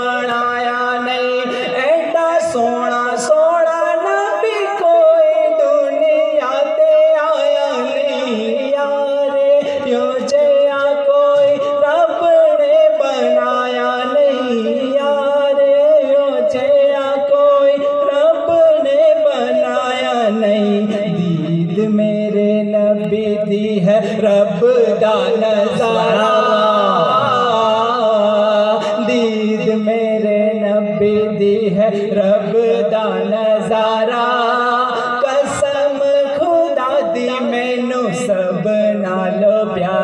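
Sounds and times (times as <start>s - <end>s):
man singing over pa: 0.0s - 40.0s.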